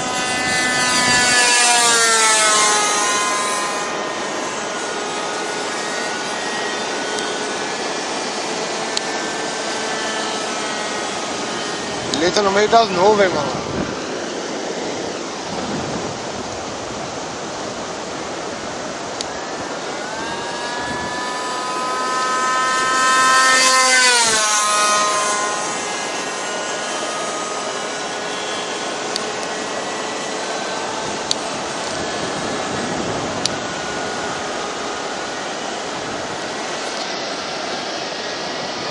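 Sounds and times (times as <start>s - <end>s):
model airplane engine whining: 0.0s - 38.9s.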